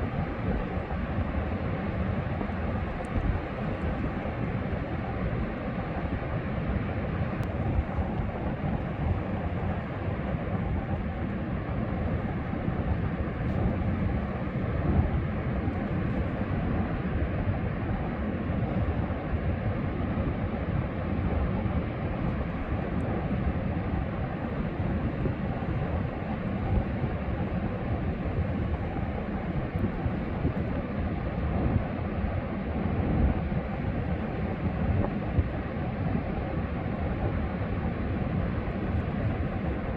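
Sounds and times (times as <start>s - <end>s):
steady wind: 0.0s - 39.9s.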